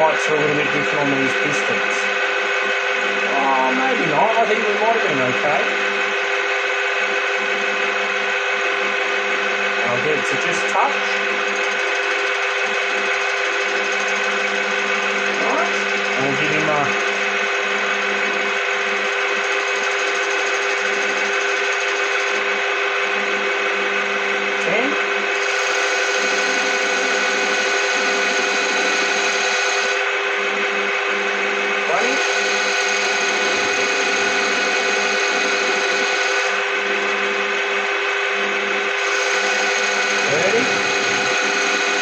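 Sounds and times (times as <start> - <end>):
lathe whining: 0.0 - 42.0.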